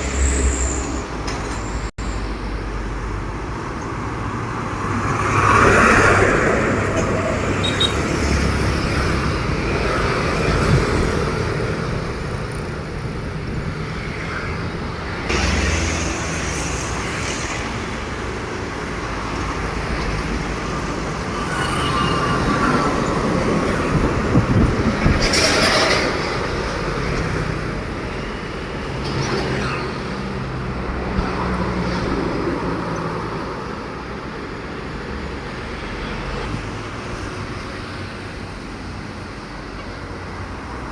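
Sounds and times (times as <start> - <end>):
trucks and vehicles passing: 0.0 - 40.9.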